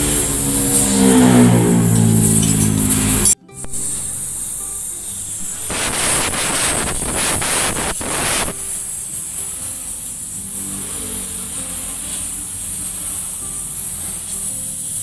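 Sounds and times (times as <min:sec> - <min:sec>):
welding arc crackling and hissing: 0:00.0 - 0:15.0.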